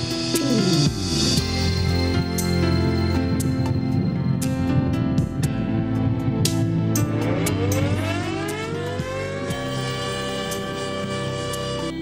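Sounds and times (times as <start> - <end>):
praise music with held note: 0.0 - 12.0.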